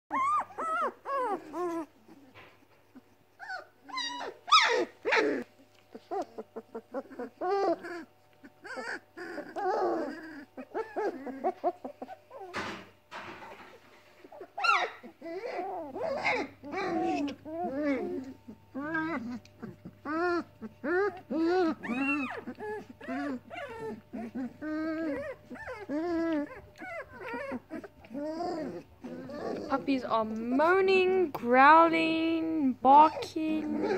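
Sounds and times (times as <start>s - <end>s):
puppy growly call: 0.1s - 31.2s, 33.0s - 33.9s
puppies whining and yelping: 0.1s - 32.3s, 32.9s - 33.9s.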